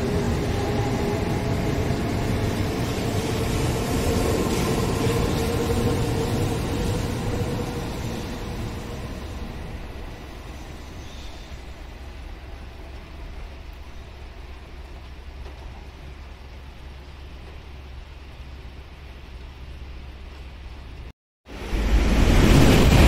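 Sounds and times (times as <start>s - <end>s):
train rolling past: 0.0s - 20.9s, 21.5s - 23.0s.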